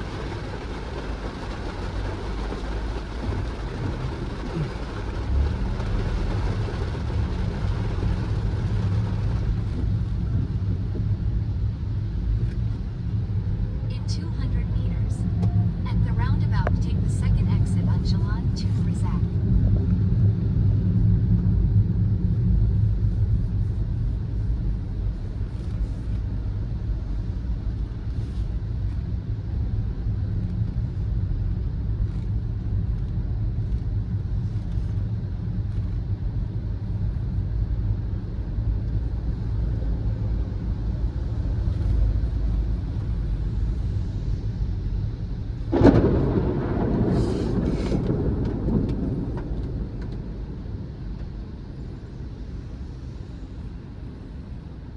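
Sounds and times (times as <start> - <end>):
engine and tyres on wet road: 0.0 - 54.9.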